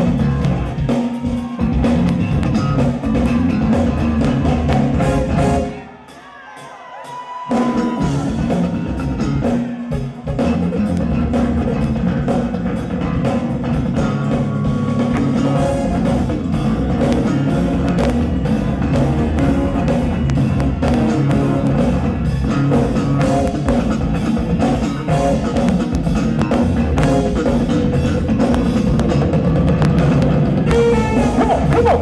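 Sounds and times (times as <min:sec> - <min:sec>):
funk band playing: 0:00.0 - 0:32.0.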